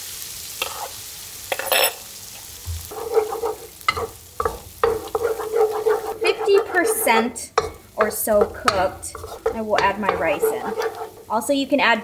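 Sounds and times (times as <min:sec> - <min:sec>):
eggs sizzling in a hot pan: 0:00.0 - 0:12.0
wooden spatula scraping a pan: 0:00.6 - 0:11.4.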